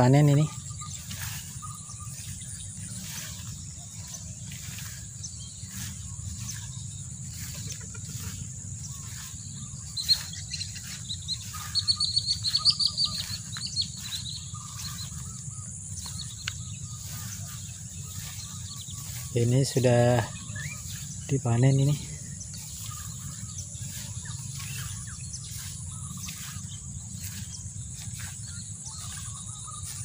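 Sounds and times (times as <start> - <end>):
birds chirping: 0.0 - 30.0
footsteps: 0.0 - 30.0
insect drone: 0.0 - 30.0.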